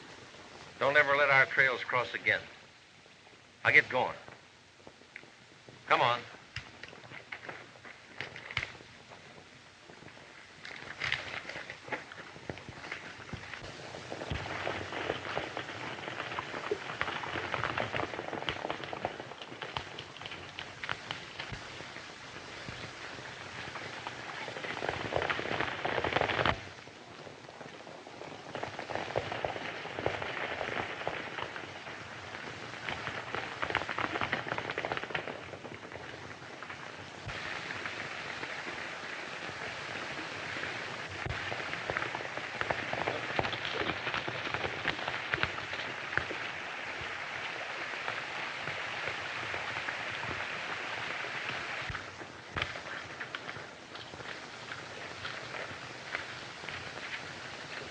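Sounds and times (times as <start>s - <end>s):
horses galloping hoofbeats: 0.0s - 57.9s.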